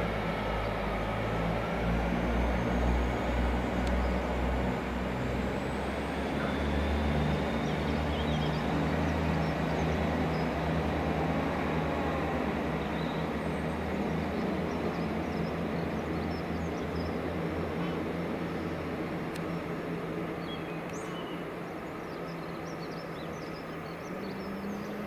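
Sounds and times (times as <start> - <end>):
diesel locomotive drone: 0.0 - 25.0.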